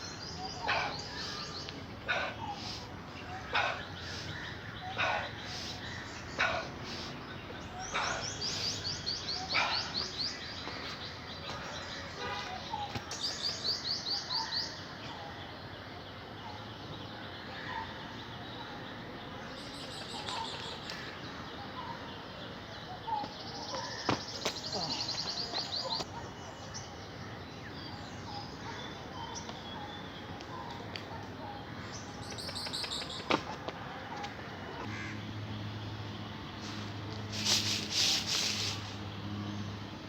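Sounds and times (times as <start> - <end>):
birds trilling: 0.0 - 22.1, 22.8 - 35.3.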